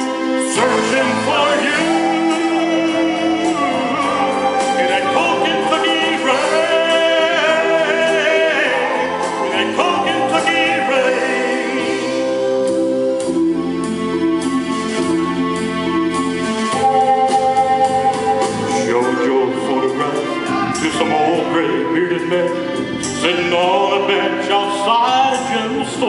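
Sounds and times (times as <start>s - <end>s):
wordless backing vocals: 0.0s - 13.2s, 16.8s - 26.0s
country-pop ballad band: 0.1s - 26.0s.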